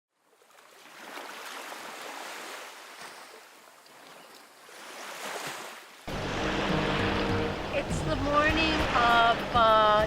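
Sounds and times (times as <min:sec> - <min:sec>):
waves washing: 0:00.4 - 0:10.0.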